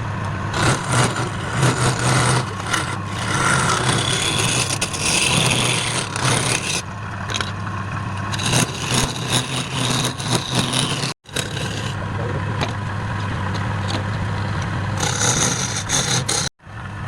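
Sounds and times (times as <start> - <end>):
lathe motor hum: 0.0 - 16.5
tool cutting spinning wood: 0.1 - 16.5.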